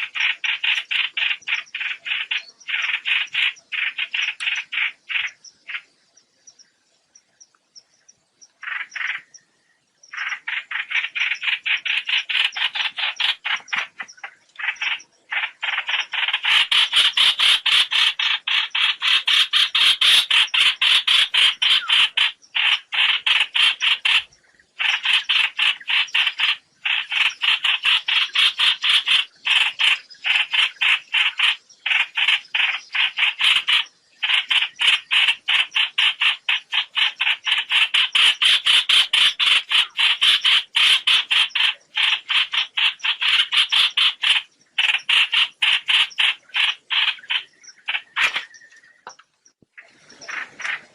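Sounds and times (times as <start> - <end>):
birds chattering calls: 0.0 - 50.9.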